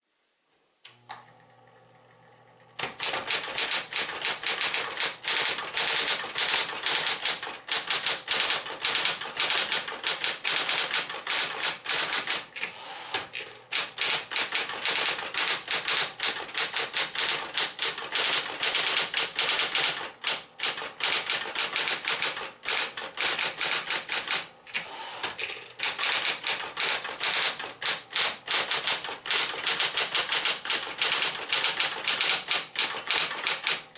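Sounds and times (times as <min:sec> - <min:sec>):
fast typewriter typing: 0:02.8 - 0:24.5, 0:25.2 - 0:33.9
typewriter motor humming: 0:02.8 - 0:33.9
typewriter switch click: 0:02.8 - 0:33.9.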